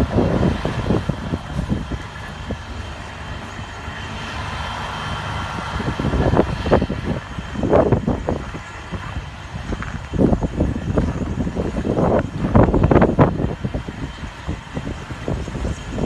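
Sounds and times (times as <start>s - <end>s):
diesel truck idling: 0.0s - 16.0s
wind noise: 0.0s - 16.0s.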